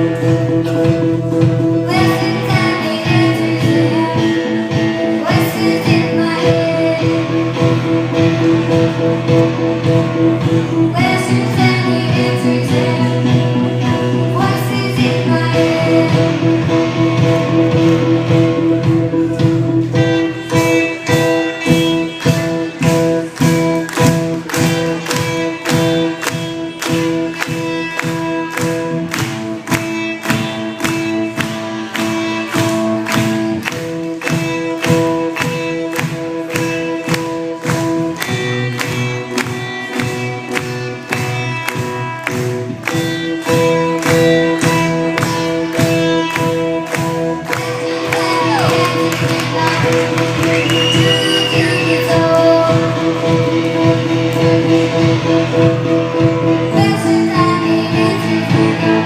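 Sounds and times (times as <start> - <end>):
band playing instrumental: 0.0 - 59.0.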